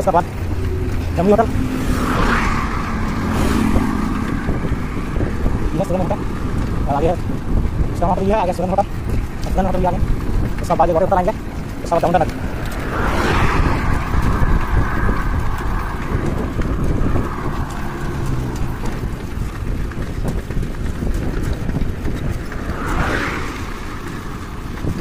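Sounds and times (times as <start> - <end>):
car passing: 0.0 - 25.0
vehicle passing: 0.0 - 25.0
wind rumbling on microphone: 0.0 - 25.0.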